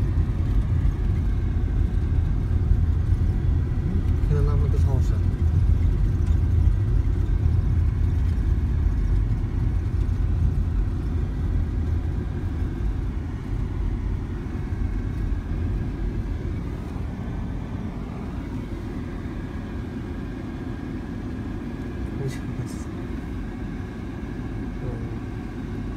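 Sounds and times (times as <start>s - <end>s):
car driving on gravel road: 0.0s - 25.9s.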